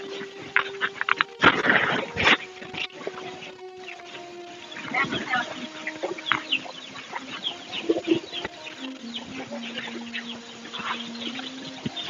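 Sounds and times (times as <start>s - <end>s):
chickens clucking: 0.0s - 12.0s
steady low tone: 0.0s - 12.0s.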